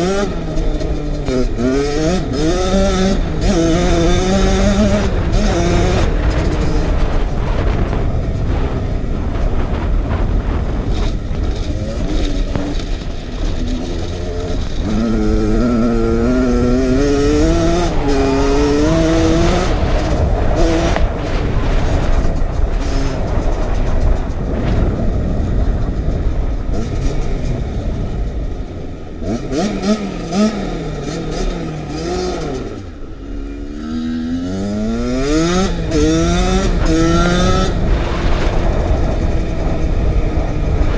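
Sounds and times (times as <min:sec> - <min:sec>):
dirt bike engine revving: 0:00.0 - 0:40.9
wind rumble on microphone: 0:00.0 - 0:40.9.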